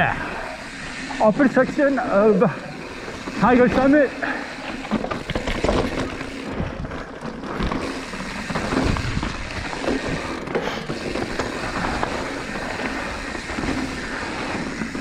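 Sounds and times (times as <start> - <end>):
bike clattering over bumps: 0.5 - 15.0.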